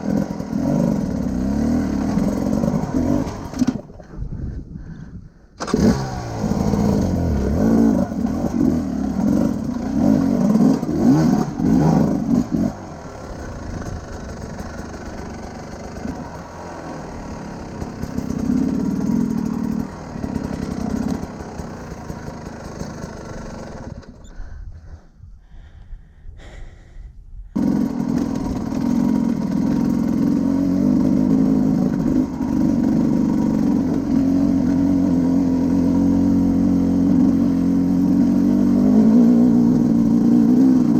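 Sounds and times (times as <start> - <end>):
motorcycle engine running: 0.0 - 25.0, 27.6 - 40.9.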